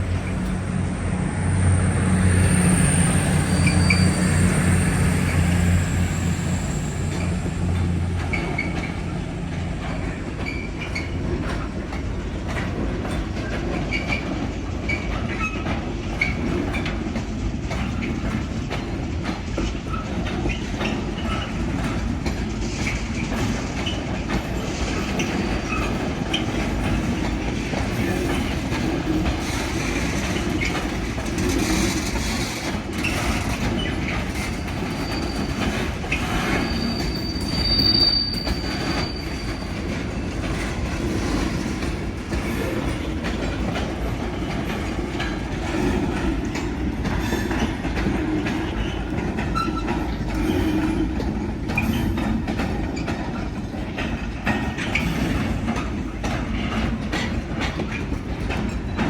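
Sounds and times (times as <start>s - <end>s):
train wheels clattering: 0.0s - 59.0s
train wheels squealing: 0.2s - 12.1s, 13.1s - 17.0s, 19.2s - 59.0s.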